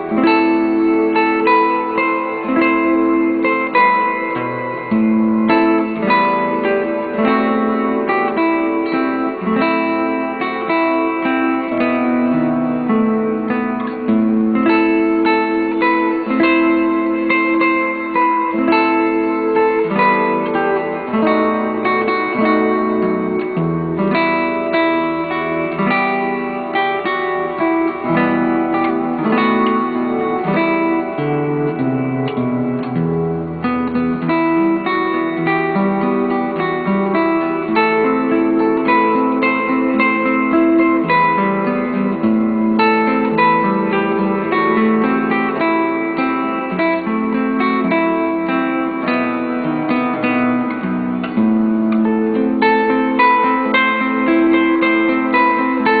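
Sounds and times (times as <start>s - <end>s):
acoustic guitar melody: 0.0s - 56.0s.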